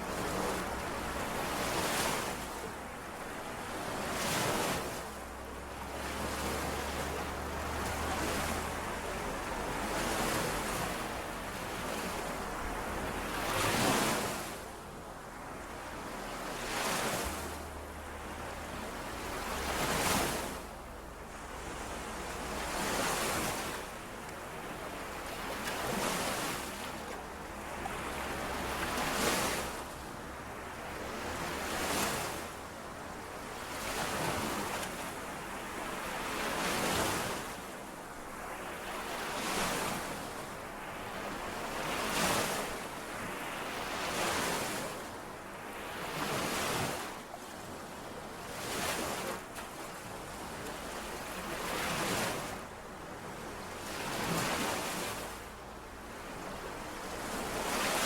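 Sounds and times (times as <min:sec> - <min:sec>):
lake waves washing on shore: 0:00.0 - 0:58.0.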